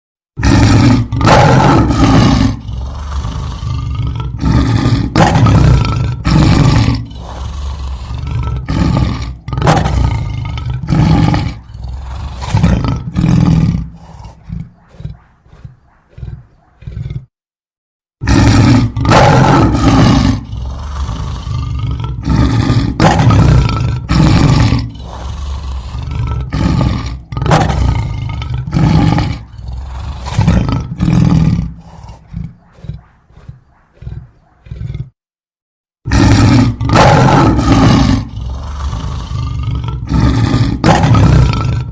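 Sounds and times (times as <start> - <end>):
lion roaring: 0.4 - 17.3, 18.2 - 35.2, 36.1 - 41.9.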